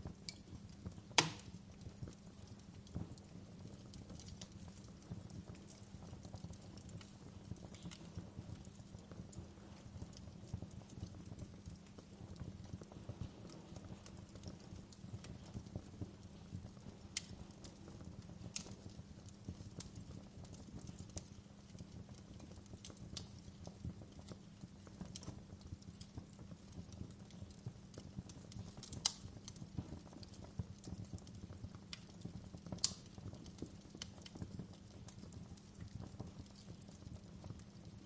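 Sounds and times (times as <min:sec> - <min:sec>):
fire snapping and popping: 0:00.0 - 0:38.0
low rumble of flame: 0:00.0 - 0:38.0.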